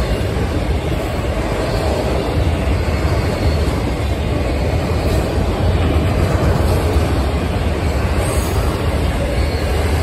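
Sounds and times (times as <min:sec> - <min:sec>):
freight train wheels rumbling on rails: 0:00.0 - 0:10.0.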